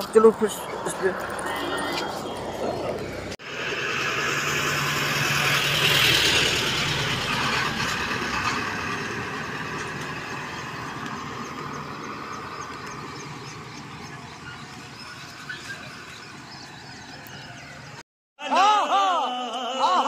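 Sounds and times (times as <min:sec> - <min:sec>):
road noise: 0:00.0 - 0:18.0
vehicle engine passing: 0:00.0 - 0:18.0.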